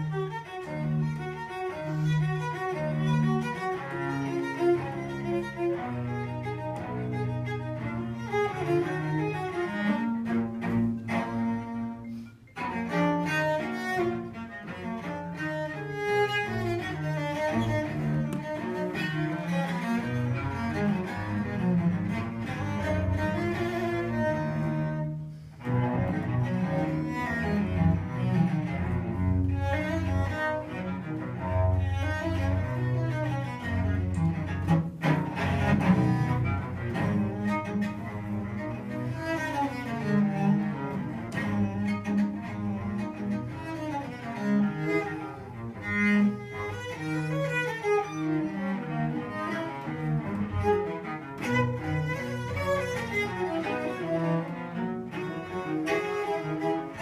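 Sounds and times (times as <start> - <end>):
bowed cello melody: 0.0 - 57.0.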